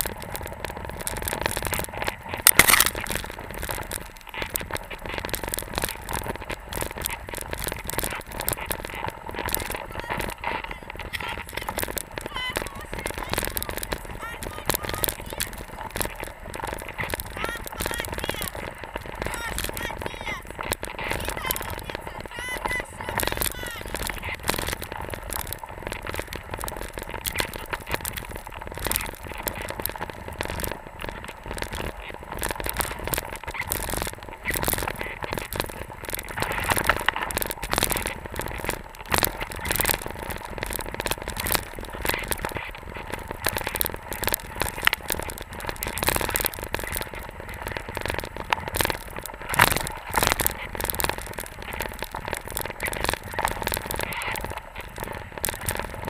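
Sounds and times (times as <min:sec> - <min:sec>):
skis scraping through snow: 0:00.0 - 0:56.0.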